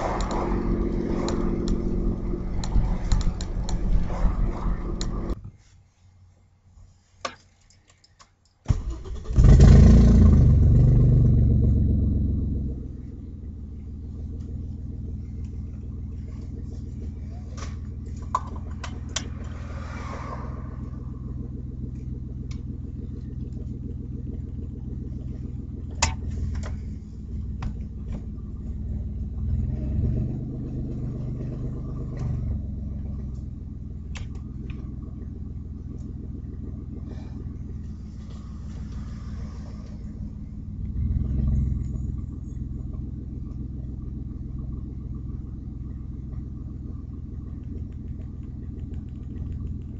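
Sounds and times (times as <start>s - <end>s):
car engine starting and idling: 0.0s - 5.7s, 8.6s - 49.9s.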